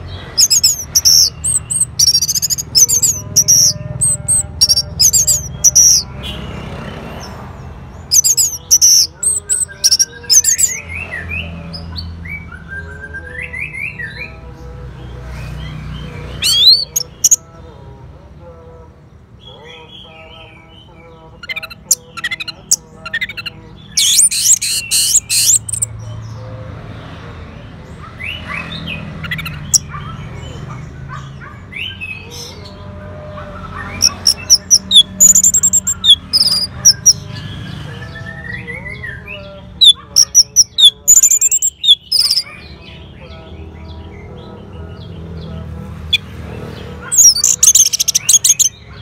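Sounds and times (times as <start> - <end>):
other birds calling: 0.0 - 12.5, 15.3 - 17.7, 19.4 - 26.6, 27.8 - 49.0
high-pitched bird song: 0.0 - 17.7, 19.4 - 26.5, 28.1 - 49.0.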